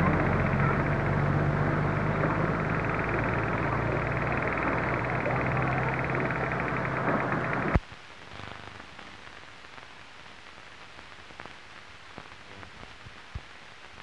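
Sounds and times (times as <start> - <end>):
faint crackles and ticks: 0.0 - 14.0
film soundtrack surface hiss: 0.0 - 14.0.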